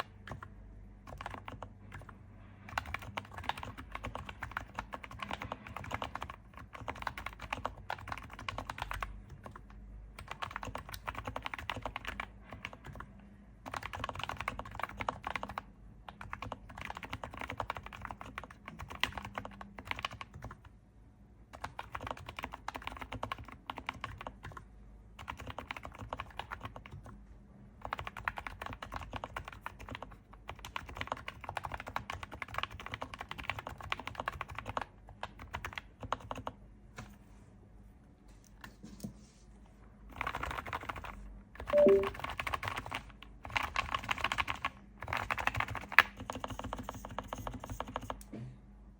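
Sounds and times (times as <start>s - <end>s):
keyboard typing: 0.0s - 20.7s, 21.5s - 27.2s, 27.8s - 37.1s, 40.1s - 48.3s.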